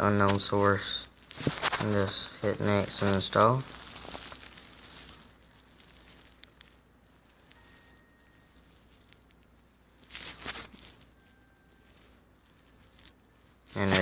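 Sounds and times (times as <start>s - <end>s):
faint rustling and crackling: 0.0s - 14.0s.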